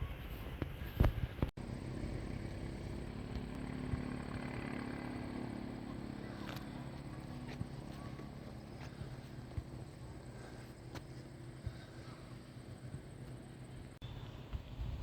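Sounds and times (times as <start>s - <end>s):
vehicle engine humming: 1.2s - 15.0s.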